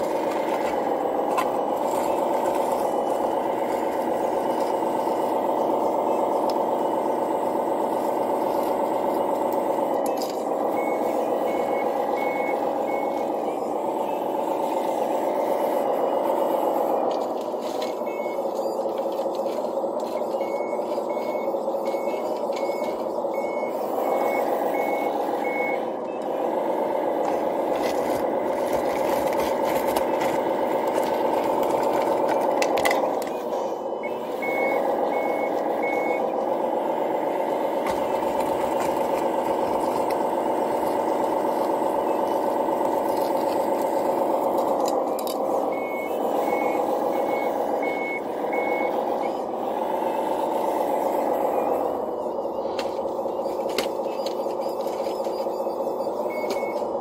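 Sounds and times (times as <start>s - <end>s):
electric hydraulic pump whine: 0.0s - 57.0s
reversing beeper: 0.0s - 57.0s.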